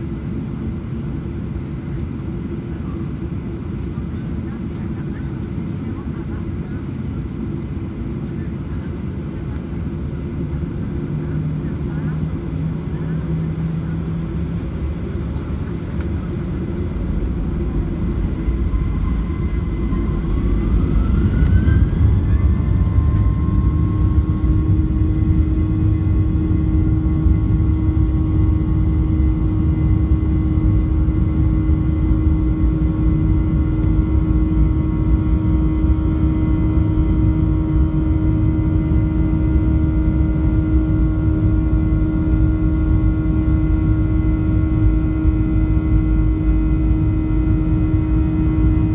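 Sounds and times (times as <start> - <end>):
jet engine rumble: 0.0 - 48.9
jet engine whine: 0.0 - 48.9.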